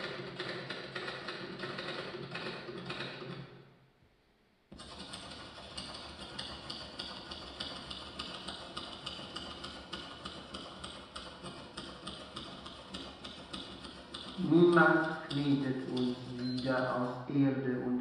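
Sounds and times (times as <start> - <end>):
dense steady clatter: 0.0 - 3.5, 4.7 - 17.2
fast mechanical ticking: 0.0 - 3.5, 4.7 - 17.3.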